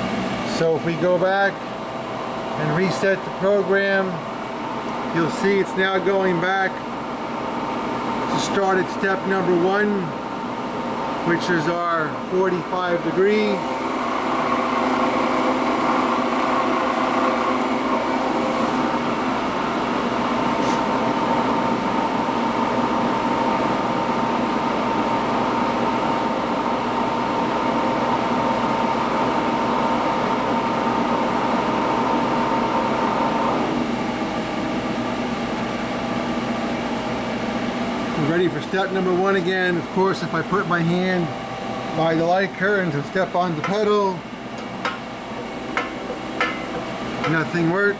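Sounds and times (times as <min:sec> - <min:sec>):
steady machine whine: 0:00.0 - 0:47.9.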